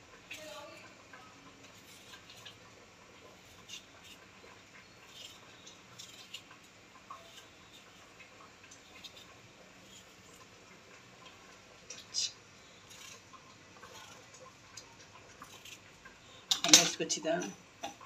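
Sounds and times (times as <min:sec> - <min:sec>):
knife peeling potato: 0:00.2 - 0:18.0.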